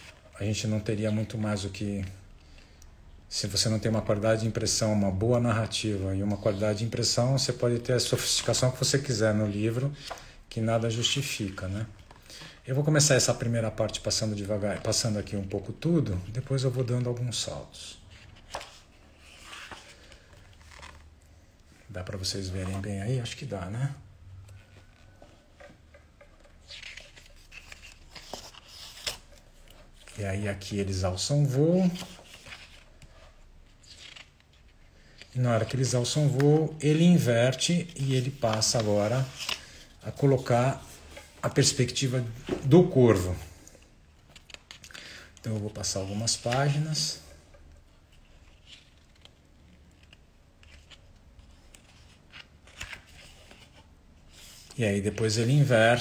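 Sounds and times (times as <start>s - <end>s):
book pages turning: 3.6s - 23.6s, 24.3s - 56.0s.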